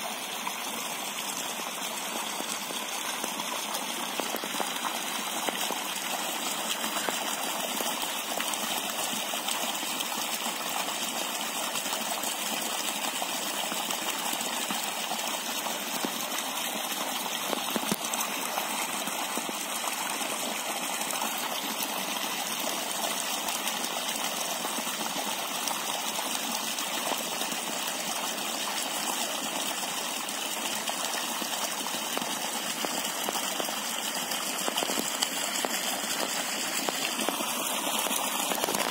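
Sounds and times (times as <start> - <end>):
water gushing from pipe into pond: 0.0 - 38.9.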